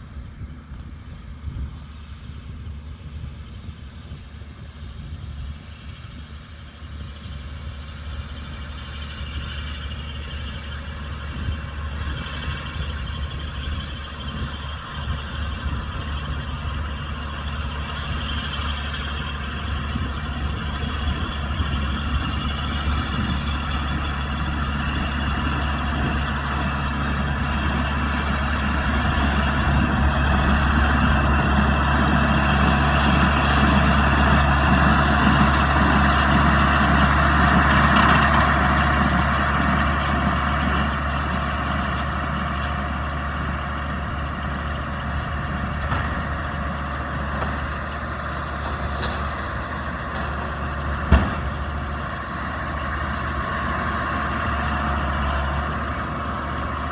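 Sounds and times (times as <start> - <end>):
tractor diesel engine running: 0.0 - 56.9
baler machinery working: 1.7 - 56.9.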